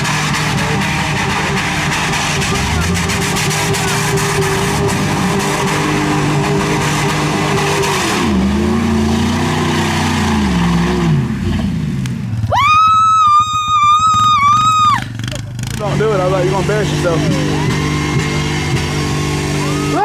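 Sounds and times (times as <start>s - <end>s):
truck engine revving: 0.0s - 12.5s, 13.5s - 20.0s.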